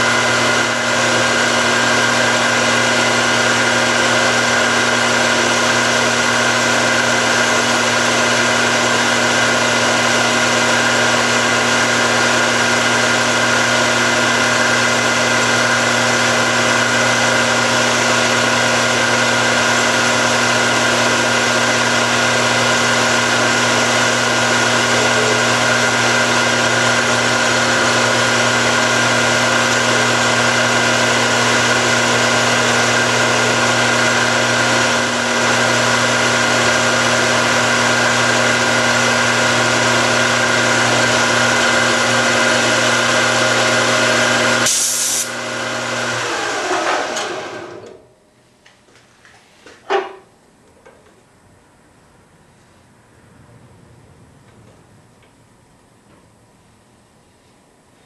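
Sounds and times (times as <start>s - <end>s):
metal lathe running: 0.0s - 48.0s.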